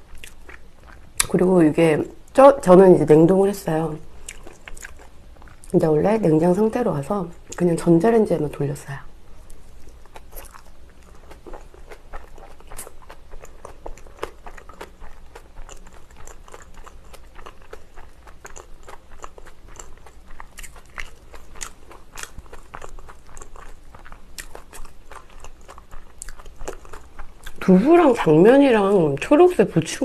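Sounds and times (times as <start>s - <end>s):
close-miked chewing: 0.0s - 1.4s, 3.7s - 6.7s, 9.4s - 30.0s.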